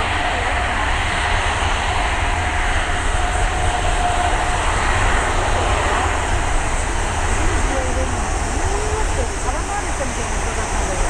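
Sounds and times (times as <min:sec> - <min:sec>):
faint engine whine: 0:00.0 - 0:11.0
jet engines roaring: 0:00.0 - 0:11.0.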